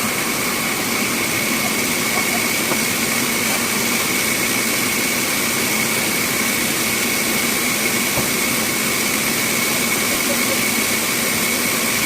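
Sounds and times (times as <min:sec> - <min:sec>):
bandsaw running with high whine: 0:00.0 - 0:12.0.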